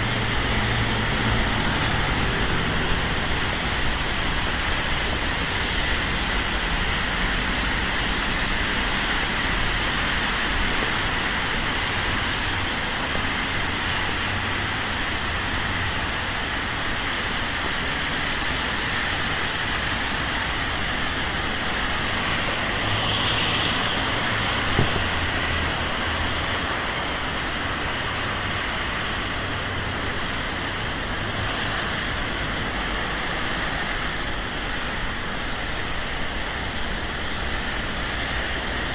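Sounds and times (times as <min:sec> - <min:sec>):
steady rain: 0:00.0 - 0:38.9
traffic hissing on wet streets: 0:00.0 - 0:38.9.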